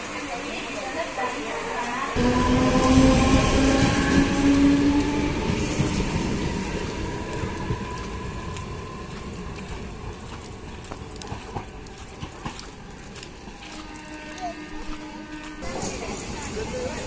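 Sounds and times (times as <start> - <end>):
electric train whine: 0.0 - 17.0
train cars rumbling: 0.0 - 17.0.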